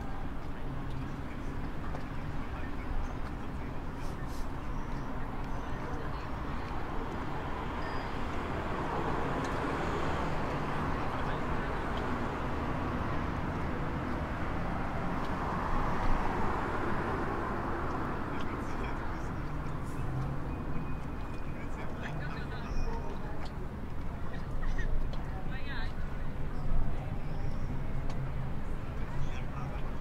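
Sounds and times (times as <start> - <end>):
road and rail traffic rumble: 0.0 - 30.0.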